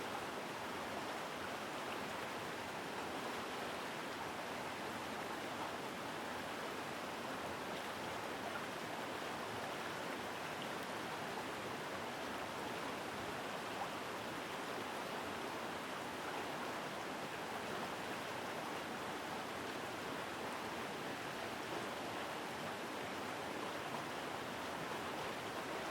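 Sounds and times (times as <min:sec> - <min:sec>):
stream water rushing: 0:00.0 - 0:25.9.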